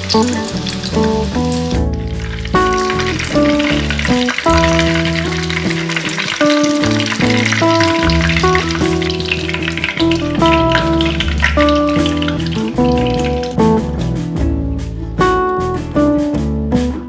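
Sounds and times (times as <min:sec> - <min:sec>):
bread rolls sizzling in oil: 0:00.0 - 0:13.8
background music with held notes: 0:00.0 - 0:17.0.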